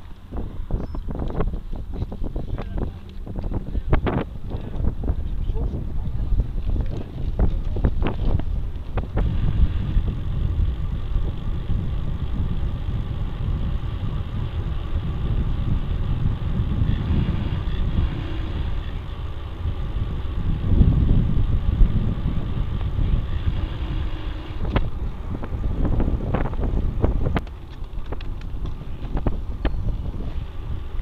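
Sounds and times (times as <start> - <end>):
low road rumble: 0.0 - 31.0
wind buffeting microphone: 0.0 - 31.0.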